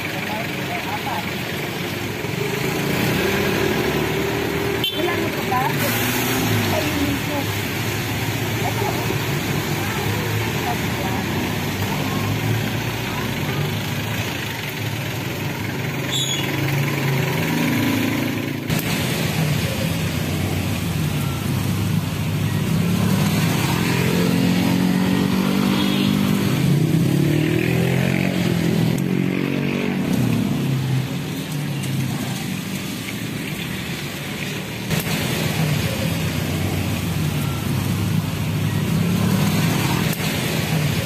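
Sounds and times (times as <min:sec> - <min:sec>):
road noise: 0:00.0 - 0:41.0.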